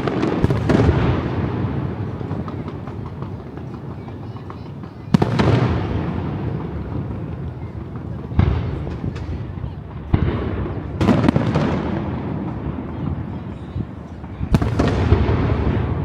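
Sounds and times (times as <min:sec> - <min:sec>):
fireworks bursting with bangs: 0:00.0 - 0:16.0.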